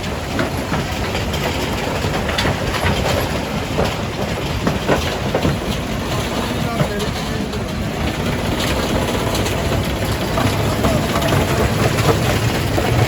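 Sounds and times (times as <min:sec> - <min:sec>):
jaw crusher rumbling: 0:00.0 - 0:13.0.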